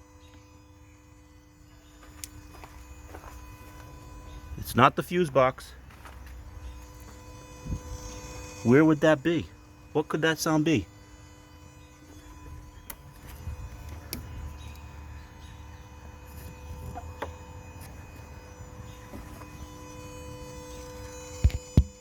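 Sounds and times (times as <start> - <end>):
electrical hum and buzz: 0.0 - 22.0.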